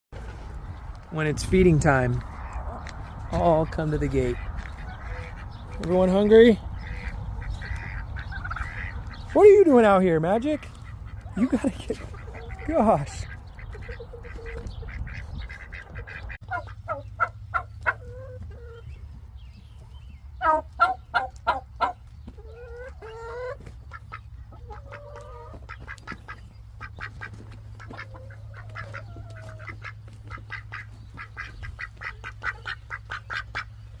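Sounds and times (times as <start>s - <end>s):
ducks quacking: 0.2s - 19.0s, 20.4s - 34.0s.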